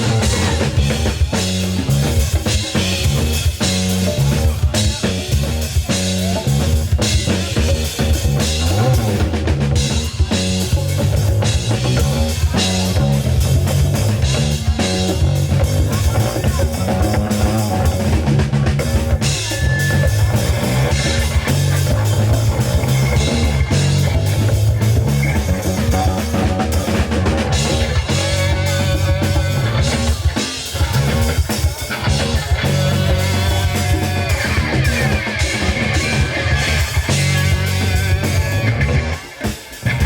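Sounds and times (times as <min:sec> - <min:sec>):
bass guitar: 0:00.0 - 0:40.0
drum kit: 0:00.0 - 0:40.0
electric guitar: 0:00.0 - 0:40.0.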